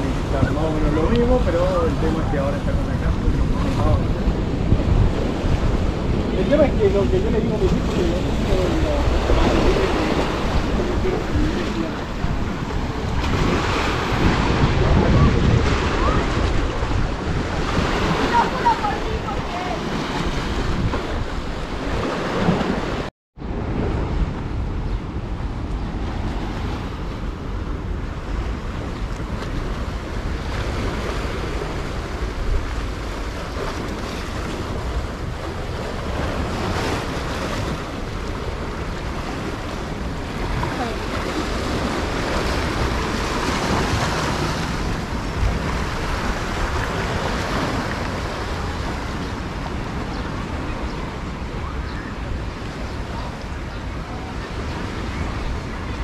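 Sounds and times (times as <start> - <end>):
small waves washing onto beach: 0.0 - 56.0
wind buffeting microphone: 0.0 - 56.0.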